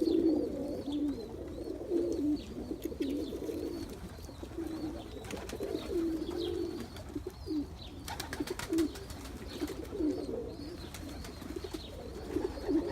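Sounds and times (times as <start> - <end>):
pigeon cooing: 0.0 - 12.9.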